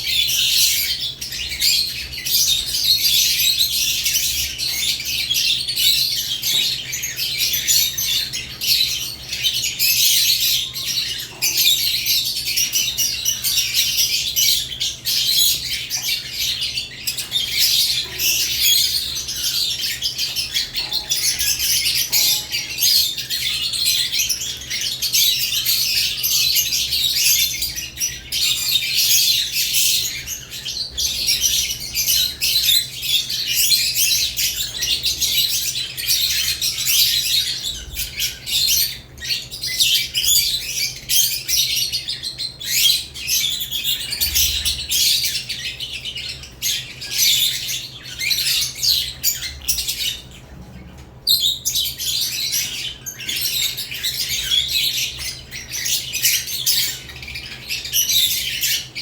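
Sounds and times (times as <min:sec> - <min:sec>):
lovebirds chirping and squawking: 0:00.0 - 0:59.0.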